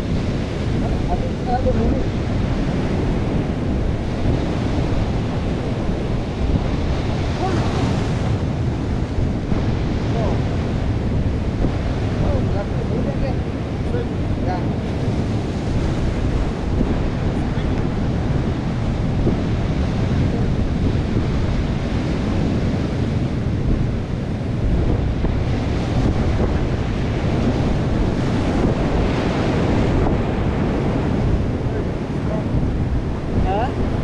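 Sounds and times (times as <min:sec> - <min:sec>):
ocean surf breaking on rocks: 0:00.0 - 0:34.0
wind rumbling on microphone: 0:00.0 - 0:34.0.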